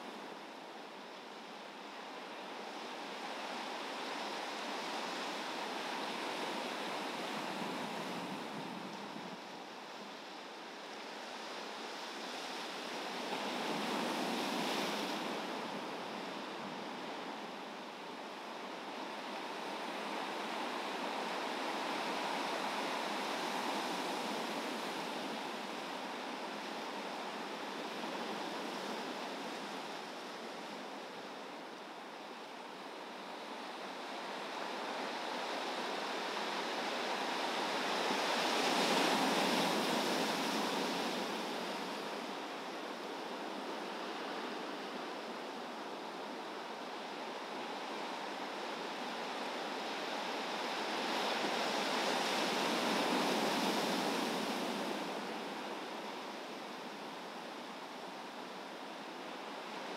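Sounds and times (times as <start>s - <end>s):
wind: 0.0s - 59.9s.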